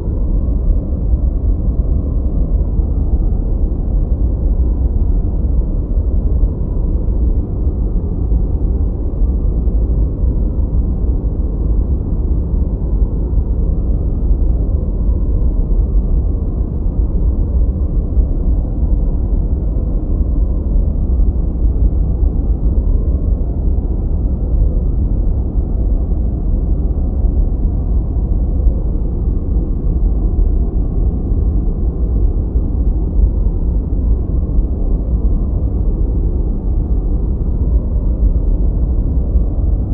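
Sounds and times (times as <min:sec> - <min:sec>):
deep muffled rumbling hiss: 0:00.0 - 0:39.9.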